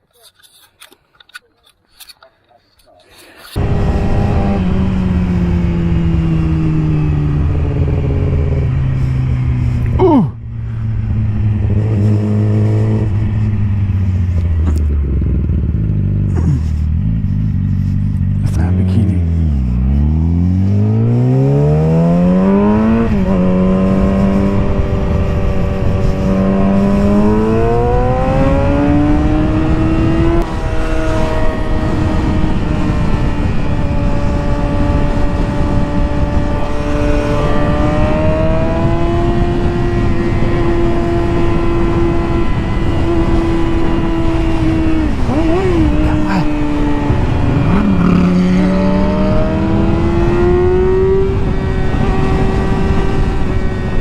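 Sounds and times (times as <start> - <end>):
motorcycle engine accelerating: 3.5 - 54.0.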